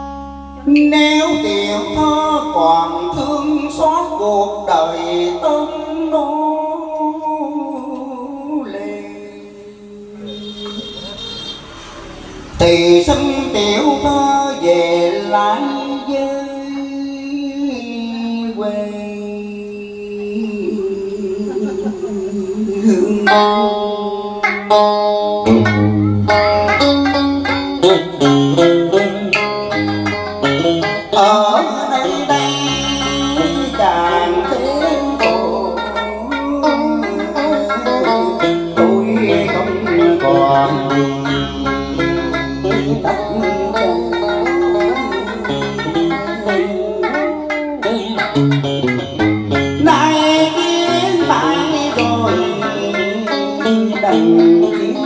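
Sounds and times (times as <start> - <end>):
guitar: 0.0 - 55.0
low bass notes: 0.0 - 55.0
plucked string melody: 0.0 - 55.0.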